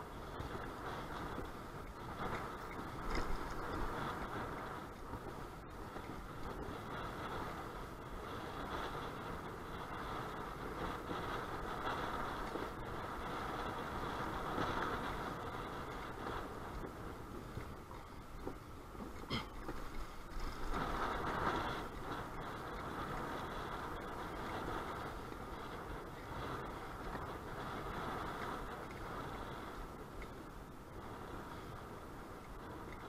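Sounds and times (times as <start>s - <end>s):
strong wind gusting: 0.0s - 33.0s.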